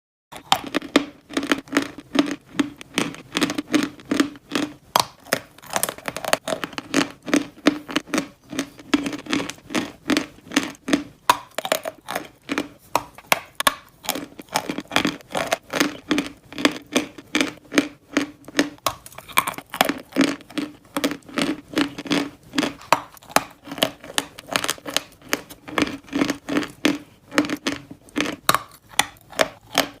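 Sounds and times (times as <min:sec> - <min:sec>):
person chewing crunchy clay: 0:00.3 - 0:30.0.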